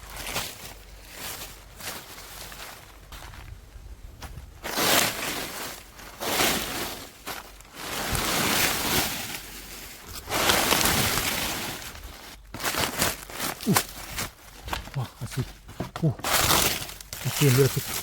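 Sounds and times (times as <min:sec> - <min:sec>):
rustling in dry vegetation: 0:00.0 - 0:18.0.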